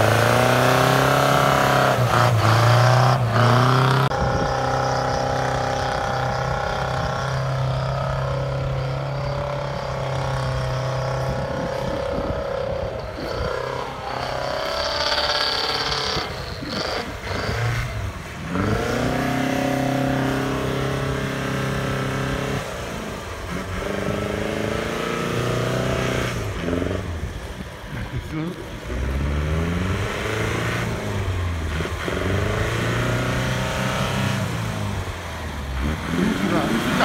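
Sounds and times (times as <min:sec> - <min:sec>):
off-road engine revving under load: 0:00.0 - 0:37.0.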